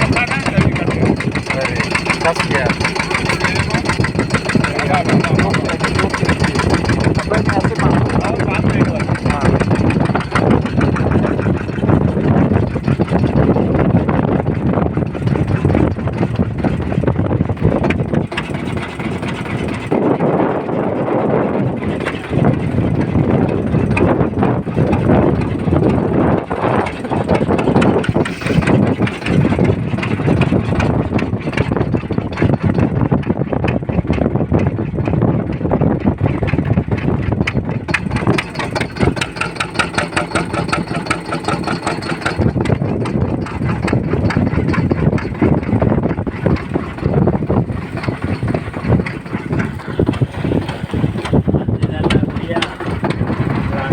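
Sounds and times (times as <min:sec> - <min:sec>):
boat engine running: 0:00.0 - 0:53.9
water noise: 0:00.0 - 0:53.9.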